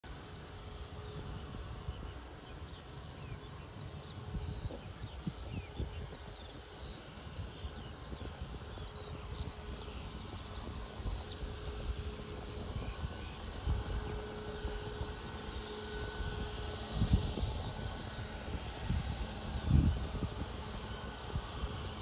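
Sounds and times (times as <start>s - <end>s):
small birds chirping: 0.1s - 22.0s.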